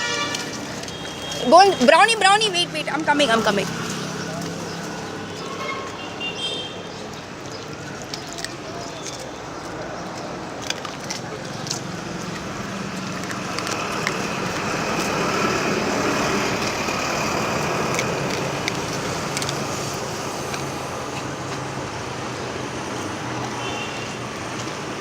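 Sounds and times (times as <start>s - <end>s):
motor vehicle passing: 0.0s - 6.2s, 6.9s - 25.0s
steady traffic hum: 0.0s - 25.0s.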